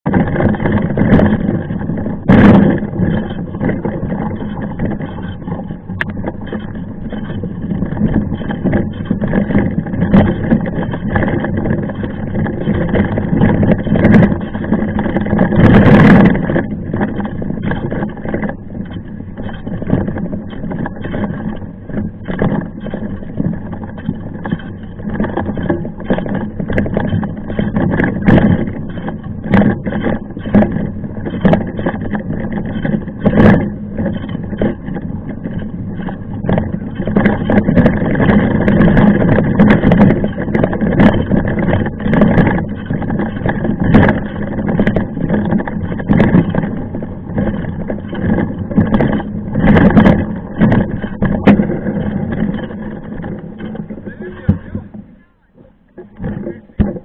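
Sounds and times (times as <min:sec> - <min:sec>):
bike knocks and rattles: 0:00.0 - 0:57.0
bike tyres rolling on trail: 0:00.0 - 0:57.0
wind noise: 0:00.0 - 0:57.0.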